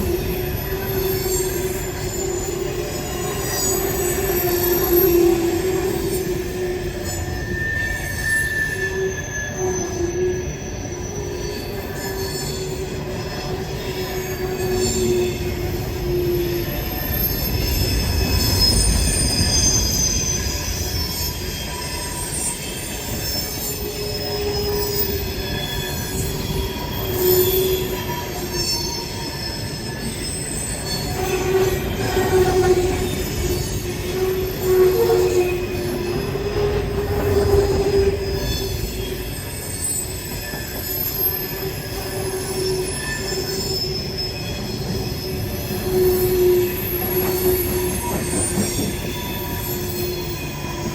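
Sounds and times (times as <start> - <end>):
freight train cars rumbling past: 0.0 - 50.9
wheel flanges squealing on rail: 0.0 - 50.9.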